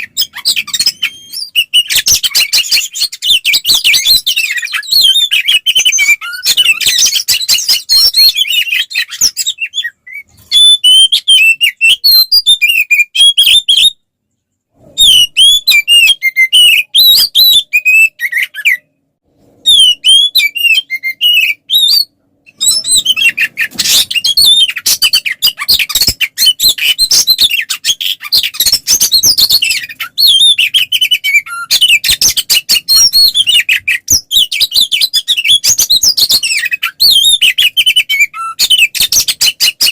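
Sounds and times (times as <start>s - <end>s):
bird singing chirps and whistles: 0.0s - 14.0s, 14.9s - 18.9s, 19.6s - 39.9s.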